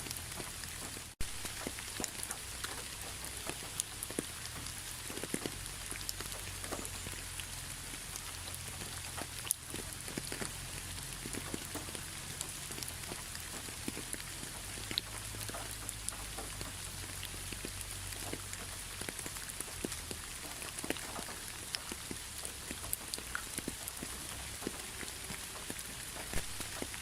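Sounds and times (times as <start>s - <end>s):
raindrops tapping nearby: 0.0s - 27.0s
steady rain hiss: 0.0s - 27.0s.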